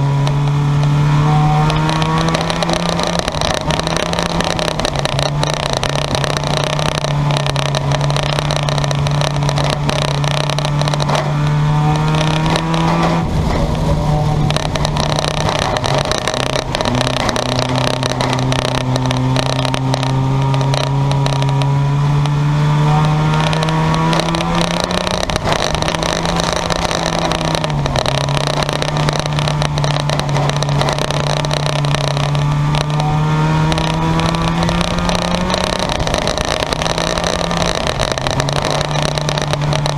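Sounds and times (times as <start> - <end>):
passing car engines: 0.0 - 39.9
race car engine drone: 0.0 - 39.9.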